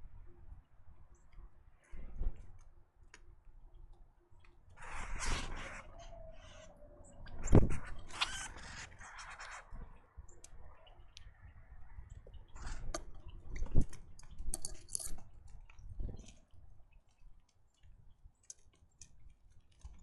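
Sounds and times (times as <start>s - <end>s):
birds pecking on a bird feeder: 0.4s - 20.0s.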